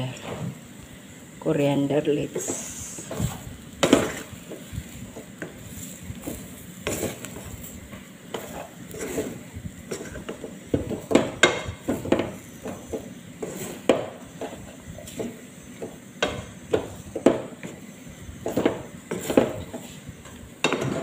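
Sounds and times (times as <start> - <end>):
wooden spatula scraping a pot: 2.2 - 21.0.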